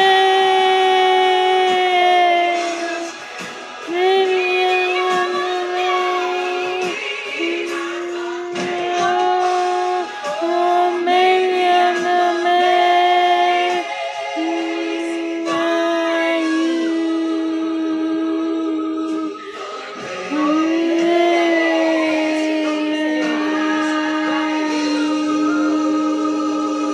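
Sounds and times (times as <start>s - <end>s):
voices singing long notes: 0.0s - 26.9s.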